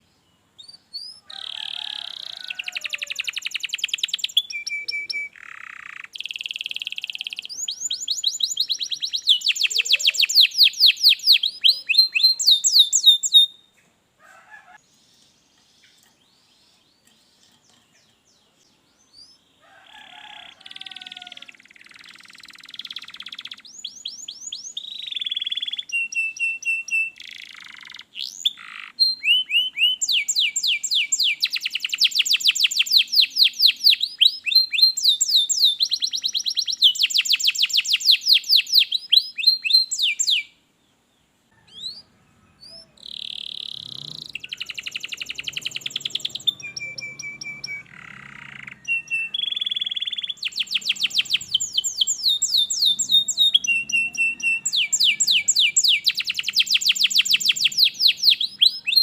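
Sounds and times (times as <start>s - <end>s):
canary singing trills: 0.0s - 40.6s, 41.6s - 59.0s.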